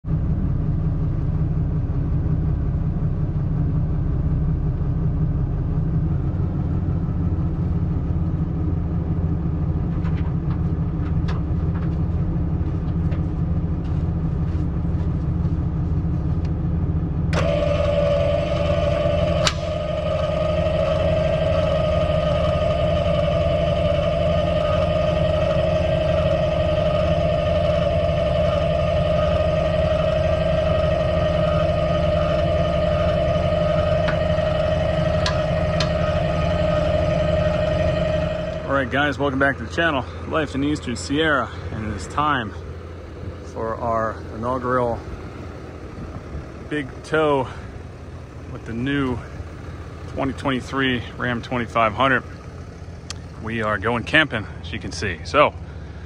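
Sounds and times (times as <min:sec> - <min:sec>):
diesel pickup idling: 0:00.0 - 0:56.0
mid-pitched whine: 0:00.0 - 0:56.0.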